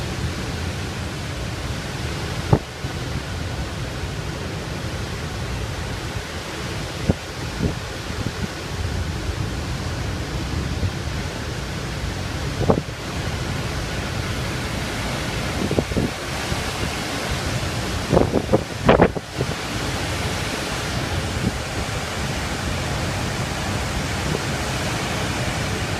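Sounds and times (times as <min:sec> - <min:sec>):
strong wind blowing: 0:00.0 - 0:25.9
wind gusts buffeting microphone: 0:00.0 - 0:25.9.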